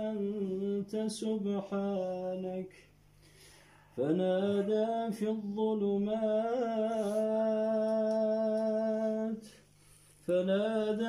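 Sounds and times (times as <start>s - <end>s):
man chanting recitation: 0.0s - 2.8s, 4.0s - 9.6s, 10.3s - 11.0s.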